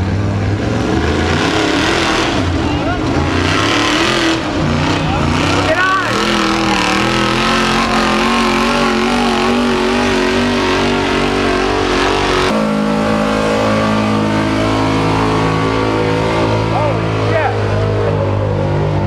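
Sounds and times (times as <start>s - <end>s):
truck engine running hard: 0.0s - 19.0s.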